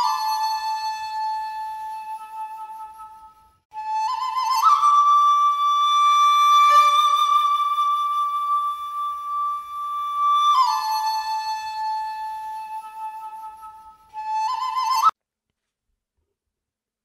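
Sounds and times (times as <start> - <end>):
slow solo wind instrument melody: 0.0 - 15.1.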